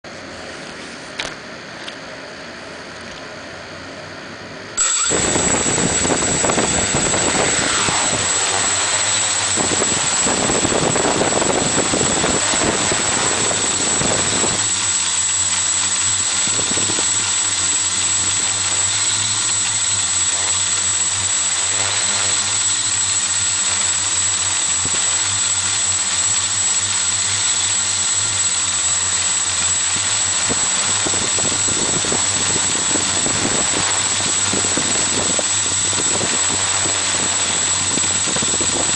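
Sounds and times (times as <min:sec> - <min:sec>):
quadcopter motors whining: 0:04.7 - 0:38.9.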